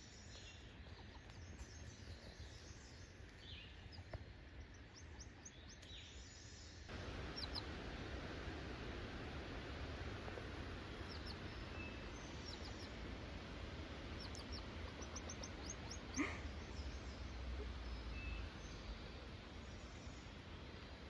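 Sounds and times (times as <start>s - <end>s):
low steady rumble: 0.0s - 21.0s
small songbirds chirping: 0.0s - 21.0s.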